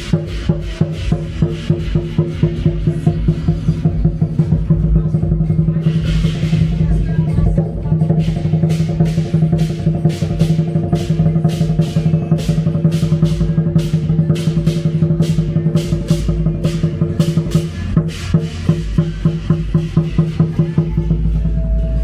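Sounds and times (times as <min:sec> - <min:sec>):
drum and cymbals striking: 0:00.0 - 0:22.0.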